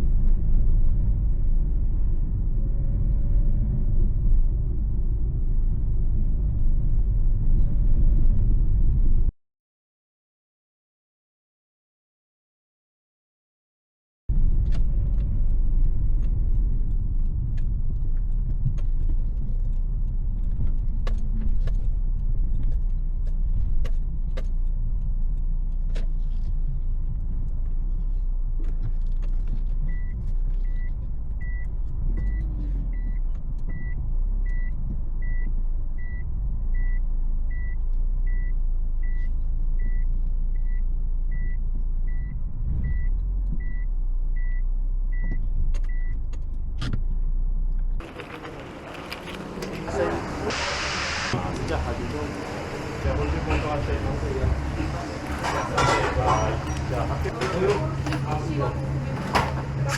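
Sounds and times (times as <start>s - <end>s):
car road noise and engine rumble: 0.0s - 9.3s, 14.3s - 59.9s.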